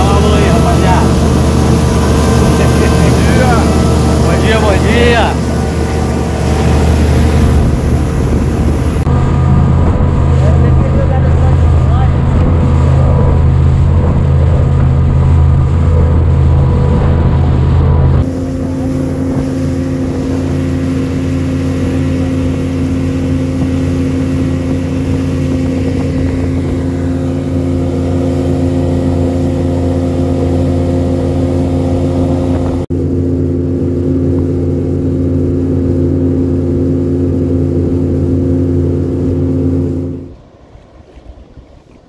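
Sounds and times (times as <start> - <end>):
outboard motor running: 0.0 - 42.0
rushing water: 0.0 - 42.0
rushing wind: 0.0 - 42.0.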